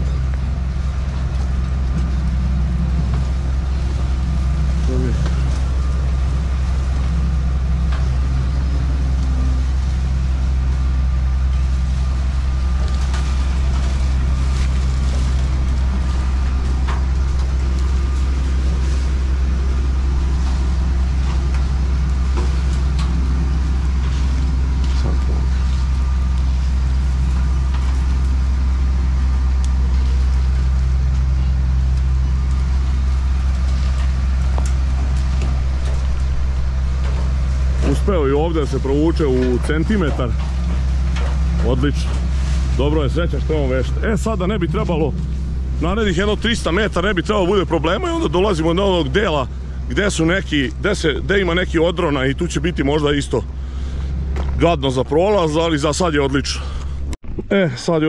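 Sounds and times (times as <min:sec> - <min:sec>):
diesel engine humming: 0:00.0 - 0:58.0.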